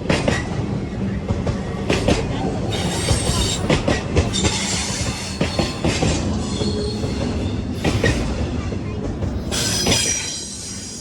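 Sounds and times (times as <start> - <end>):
railroad cars rumbling past: 0.0 - 11.0.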